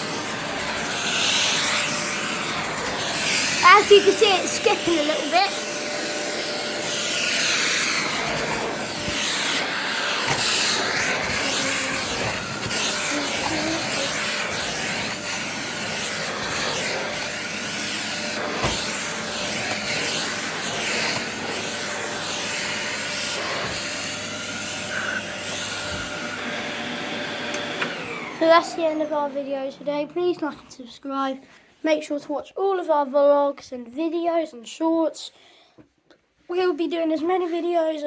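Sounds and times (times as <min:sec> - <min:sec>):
vacuum cleaner running: 0:00.0 - 0:30.6.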